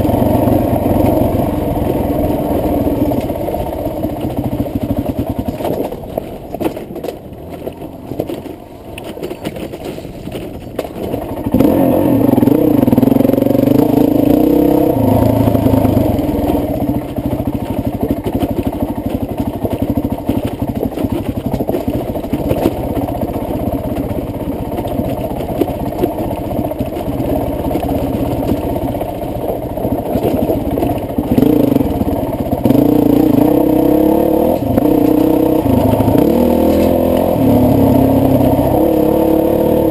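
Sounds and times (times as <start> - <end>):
muffled dirt bike engine revving: 0.0 - 5.8, 10.3 - 39.9.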